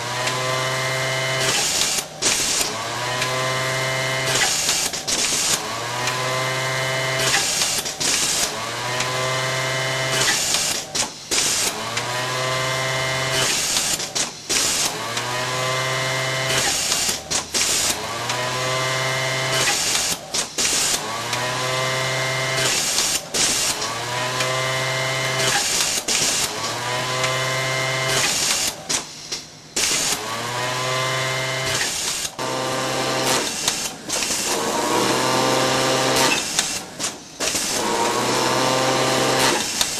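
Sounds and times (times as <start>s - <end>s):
industrial sewing machine whine: 0.0s - 39.9s.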